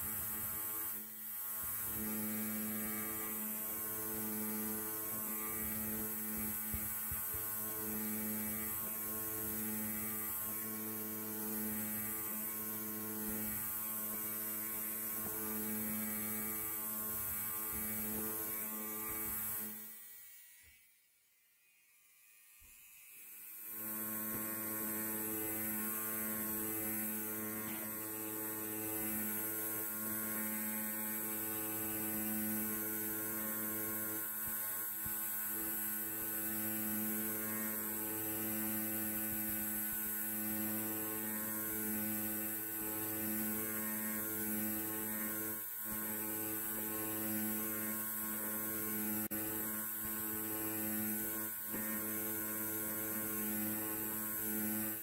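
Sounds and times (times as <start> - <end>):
electric hair trimmer buzzing: 0.0 - 55.0.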